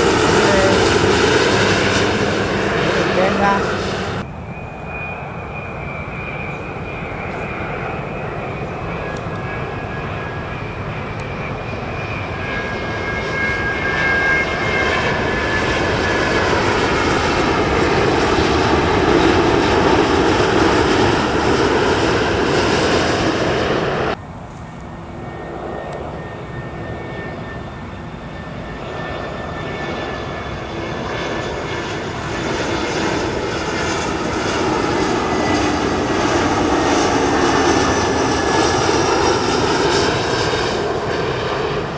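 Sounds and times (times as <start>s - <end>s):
faint high whine: 0.0s - 41.9s
jet engines roaring: 0.0s - 41.9s
steady jet engine noise: 0.0s - 41.9s.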